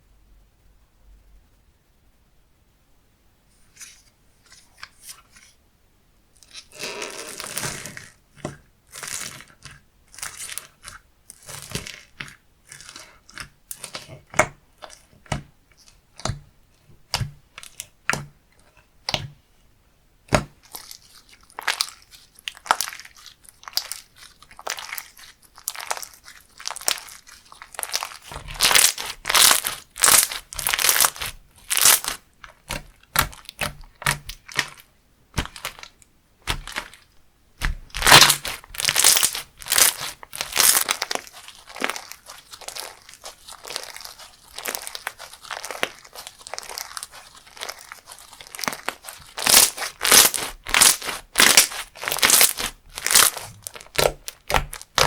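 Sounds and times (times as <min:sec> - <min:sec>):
hands squishing crunchy slime: 0:06.4 - 0:19.4, 0:20.3 - 0:55.0.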